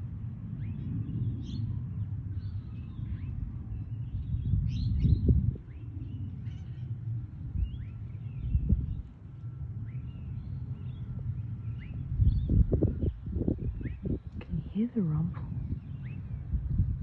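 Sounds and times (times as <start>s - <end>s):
low rumble from the sky: 0.0s - 17.0s
birds chirping: 0.6s - 17.0s.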